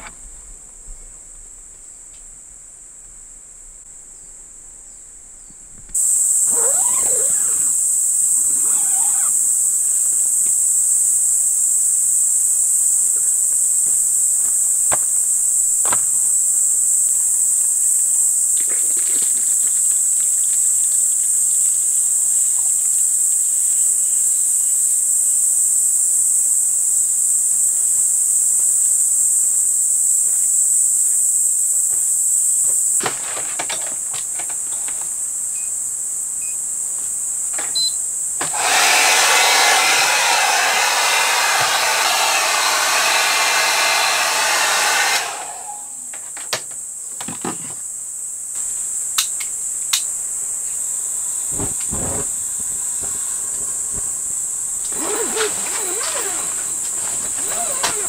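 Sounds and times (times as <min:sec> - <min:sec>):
insect chorus buzzing: 0:03.9 - 0:58.0.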